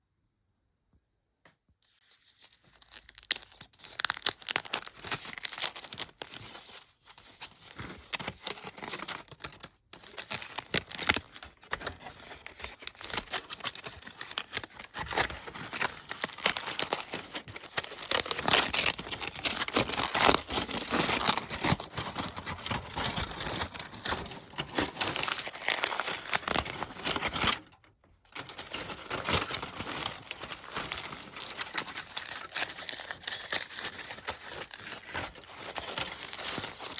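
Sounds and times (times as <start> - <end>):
crunchy snacks crinkling: 2.6 - 6.8, 7.5 - 36.9.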